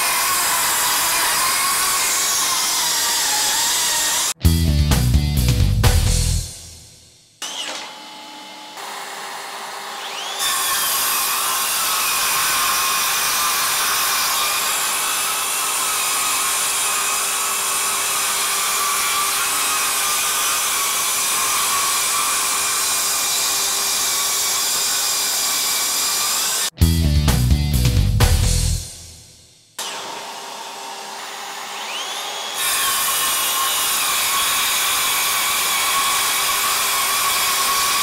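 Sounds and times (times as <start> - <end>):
circular saw cutting boards: 0.0 - 4.4, 7.4 - 29.0, 29.8 - 38.0.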